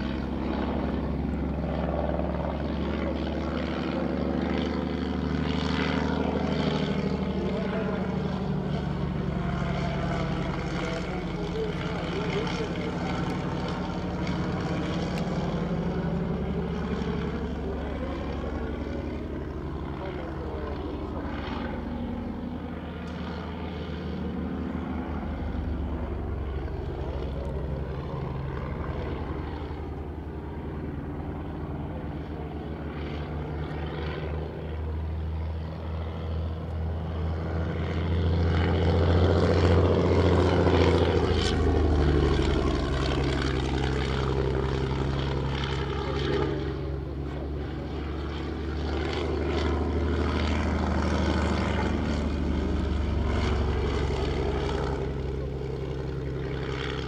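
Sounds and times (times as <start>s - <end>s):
biplane engine droning overhead: 0.0s - 57.0s.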